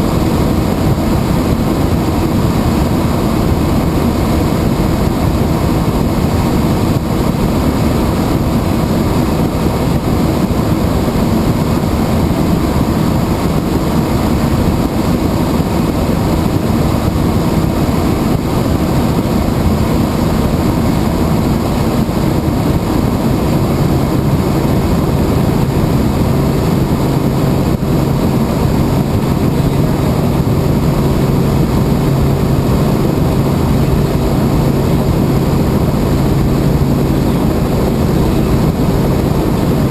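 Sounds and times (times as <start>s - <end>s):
helicopter cabin drone: 0.0s - 39.9s.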